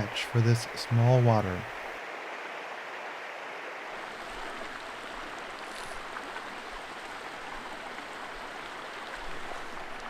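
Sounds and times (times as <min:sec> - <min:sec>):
mountain stream flowing: 0:00.0 - 0:10.0.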